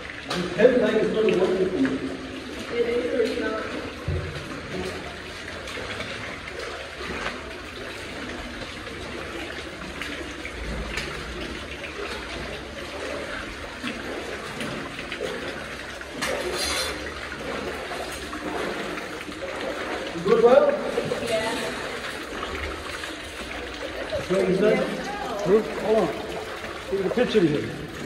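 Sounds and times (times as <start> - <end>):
water running and splashing: 0.0 - 28.0.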